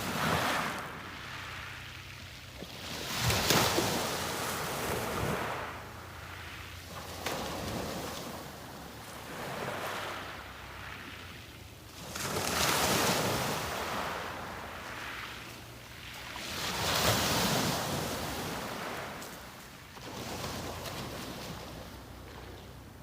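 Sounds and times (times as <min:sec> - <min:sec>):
sea waves breaking on beach: 0:00.0 - 0:22.6.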